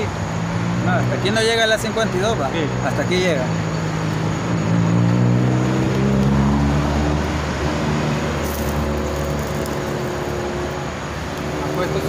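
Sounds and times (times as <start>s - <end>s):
large vehicle engine drone: 0.0s - 12.0s
road traffic passing: 0.0s - 12.0s.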